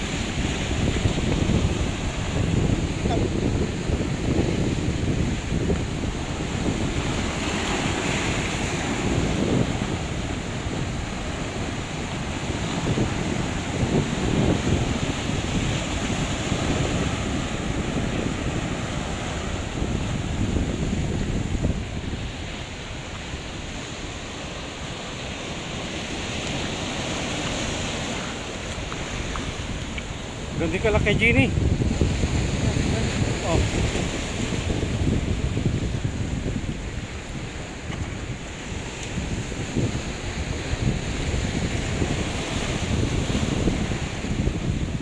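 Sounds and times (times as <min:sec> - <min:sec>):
surf washing over rocks: 0:00.0 - 0:45.0
wind buffeting microphone: 0:00.0 - 0:45.0.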